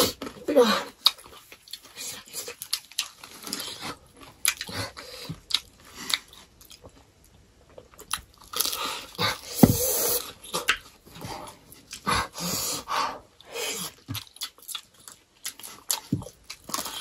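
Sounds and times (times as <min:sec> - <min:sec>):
people chewing food: 0:00.0 - 0:17.0.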